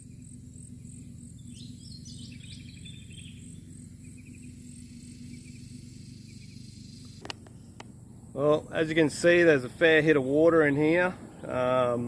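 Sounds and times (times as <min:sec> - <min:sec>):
insects chirping in pulsing rhythm: 0:00.0 - 0:12.0
steady low background hum: 0:00.0 - 0:12.0.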